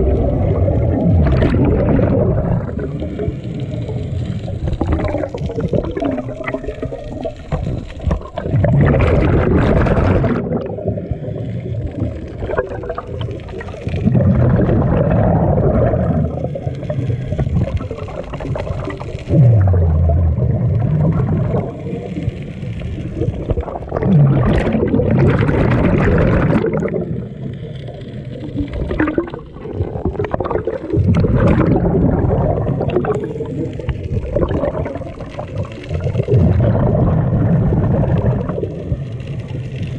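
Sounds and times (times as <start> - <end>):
diver exhaling bubbles underwater: 0.0 - 39.9.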